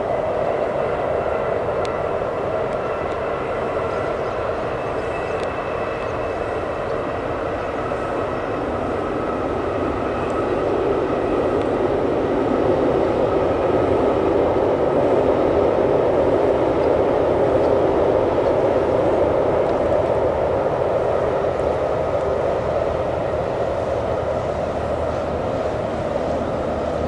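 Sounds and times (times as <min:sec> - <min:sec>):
faint whine: 0:00.0 - 0:27.0
train rumbling over steel bridge: 0:00.0 - 0:27.0.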